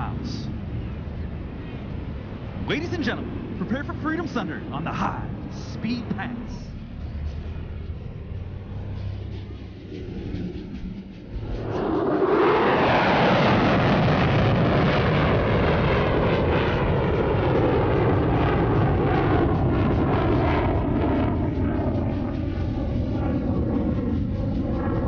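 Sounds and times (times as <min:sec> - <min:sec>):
crackling jet rumble: 0:00.0 - 0:25.0
jet engine roaring past: 0:00.0 - 0:25.0.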